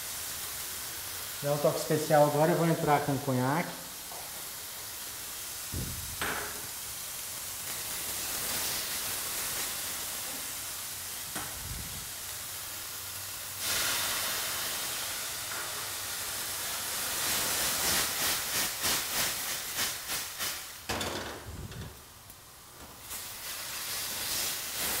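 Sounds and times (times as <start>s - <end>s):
food sizzling in frying pan: 0.0s - 21.3s, 22.0s - 25.0s
alcohol boiling off hiss: 0.0s - 25.0s.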